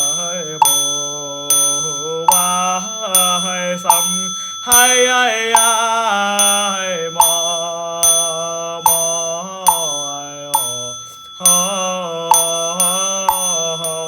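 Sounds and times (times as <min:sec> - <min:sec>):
small bell ringing: 0:00.0 - 0:14.0.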